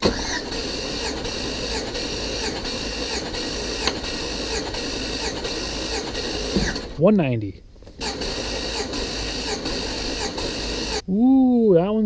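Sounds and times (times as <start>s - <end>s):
engine turning over: 0.0s - 7.0s, 7.9s - 11.0s
starter motor whirring: 0.0s - 7.0s, 7.8s - 11.0s.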